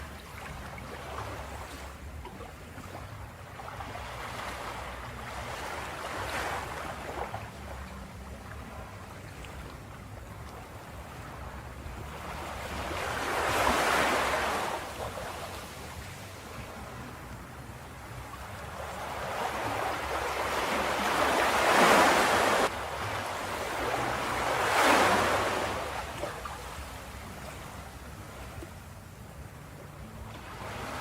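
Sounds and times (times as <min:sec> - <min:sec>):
low rumble of surf: 0:00.0 - 0:31.0
waves washing onto shore: 0:00.0 - 0:31.0.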